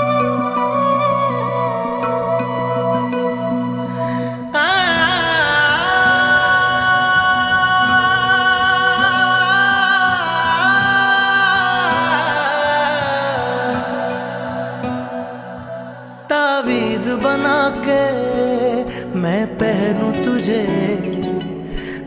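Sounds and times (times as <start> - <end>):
man singing wordless notes: 3.7 - 22.0.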